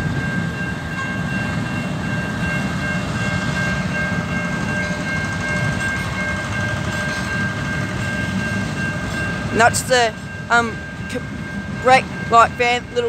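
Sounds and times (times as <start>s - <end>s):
level crossing bells ringing: 0.0s - 13.0s
railway wagons rumbling: 0.0s - 13.0s.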